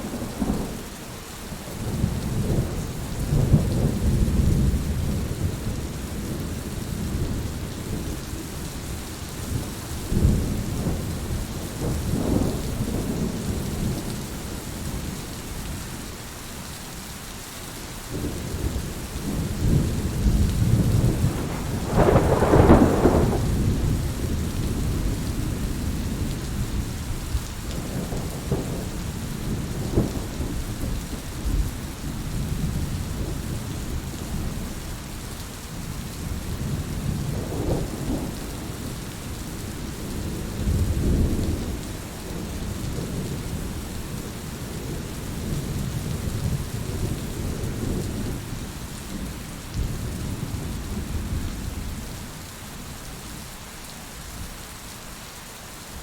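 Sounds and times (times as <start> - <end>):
thunder rumbling: 0.0 - 0.9, 1.8 - 8.2, 9.5 - 15.1, 18.1 - 34.7, 36.0 - 52.2
heavy rain falling: 0.0 - 56.0.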